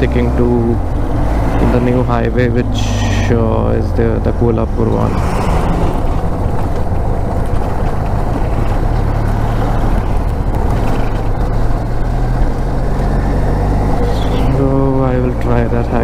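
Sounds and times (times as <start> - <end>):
motorcycle engine cruising: 0.0 - 16.0
wind buffeting microphone: 0.0 - 16.0.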